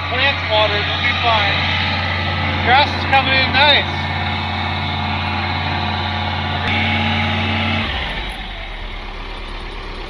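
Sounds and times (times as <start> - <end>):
pump engine running: 0.0 - 10.0.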